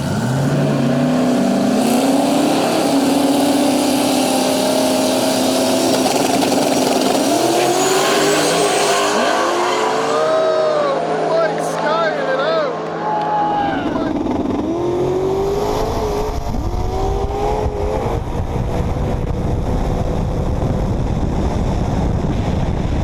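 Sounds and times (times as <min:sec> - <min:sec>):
drag racing engines full throttle: 0:00.0 - 0:23.0.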